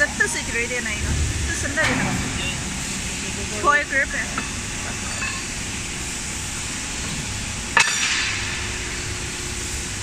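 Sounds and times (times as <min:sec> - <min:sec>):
workshop machinery hum: 0:00.0 - 0:10.0.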